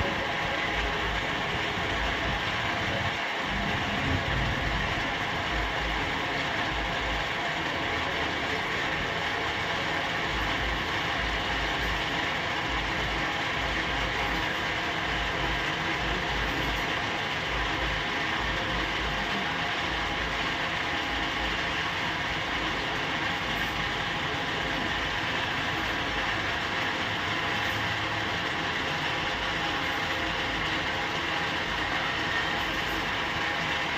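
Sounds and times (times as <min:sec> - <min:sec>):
metal lathe running: 0:00.0 - 0:33.9.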